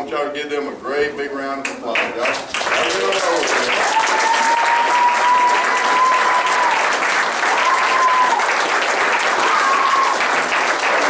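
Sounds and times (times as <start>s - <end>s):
crowd applauding: 1.9s - 11.0s.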